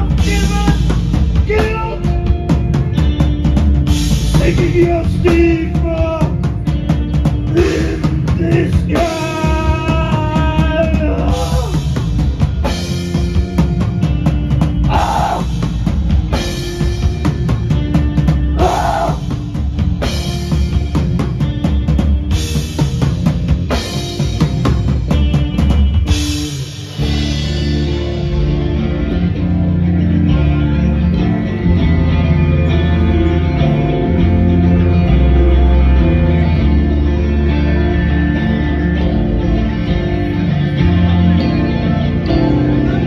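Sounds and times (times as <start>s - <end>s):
metal band playing live: 0.0s - 43.0s
pounding drum kit: 0.0s - 43.0s
ringing guitar and bass chords: 0.0s - 43.0s.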